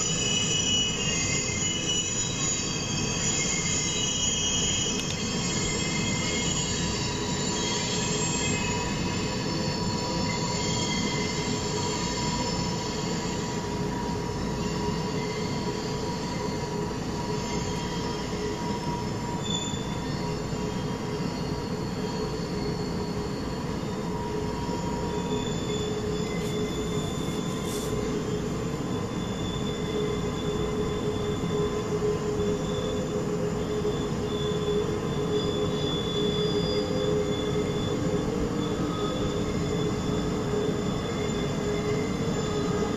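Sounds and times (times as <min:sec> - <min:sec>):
shrill wheel flange squeal: 0:00.0 - 0:42.9.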